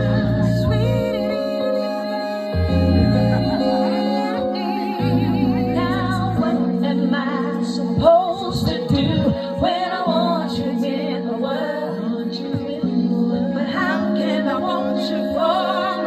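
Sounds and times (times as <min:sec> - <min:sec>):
held accompaniment chords: 0:00.0 - 0:16.0
woman singing into a microphone: 0:00.0 - 0:16.0.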